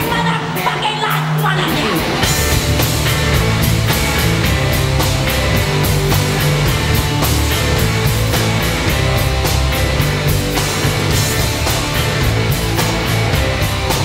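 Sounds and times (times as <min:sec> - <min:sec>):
electric guitar: 0:00.0 - 0:14.0
live rock band playing: 0:00.0 - 0:14.0
steady drum beat: 0:01.4 - 0:14.0.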